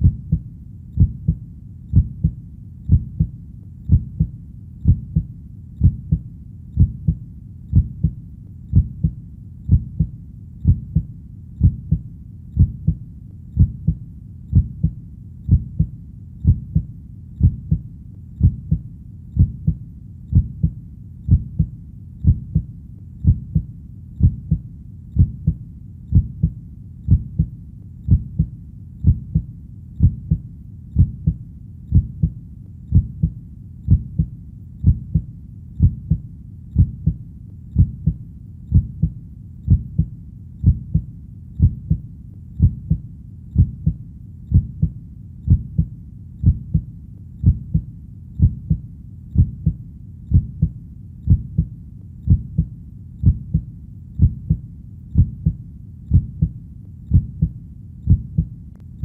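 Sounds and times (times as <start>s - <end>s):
faint low hum: 0.0s - 59.0s
heartbeat: 0.0s - 59.0s.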